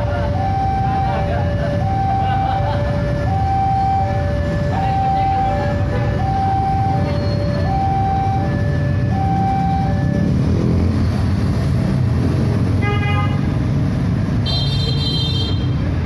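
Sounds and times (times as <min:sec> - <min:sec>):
idling motorcycles and cars: 0:00.0 - 0:16.0.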